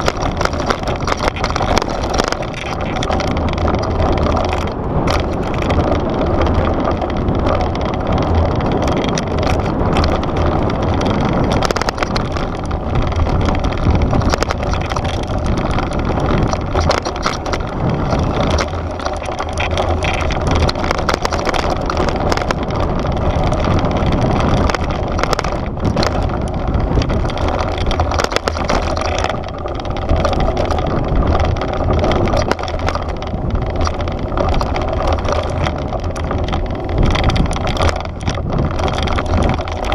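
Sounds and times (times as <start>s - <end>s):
bike rattling over bumps: 0.0s - 39.9s
tyres crunching over dirt and stones: 0.0s - 39.9s
wind buffeting microphone: 0.0s - 39.9s.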